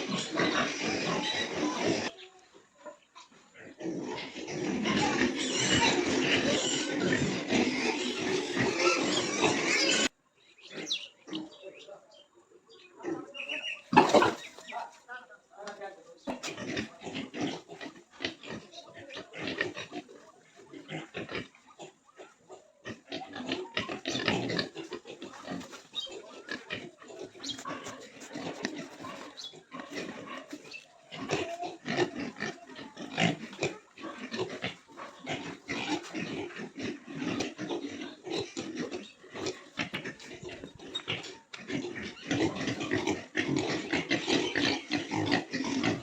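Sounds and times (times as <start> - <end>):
pigs grunting: 0.0 - 11.9, 12.8 - 14.9, 16.2 - 46.0.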